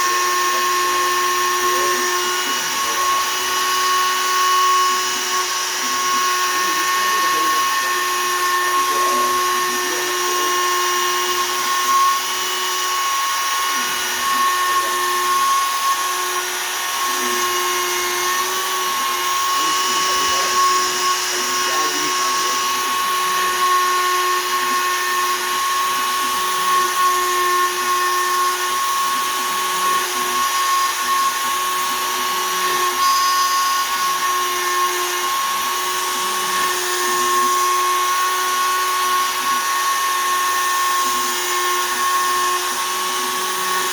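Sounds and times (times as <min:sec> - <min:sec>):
router spindle whine: 0:00.0 - 0:43.9.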